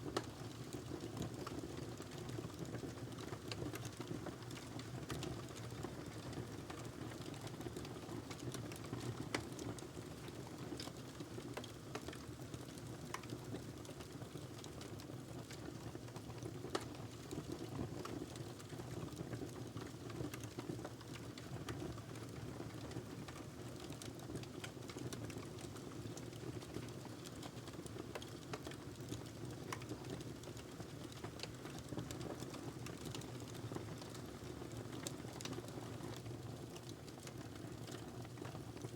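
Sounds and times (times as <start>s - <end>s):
fire crackling and popping: 0.1s - 38.9s.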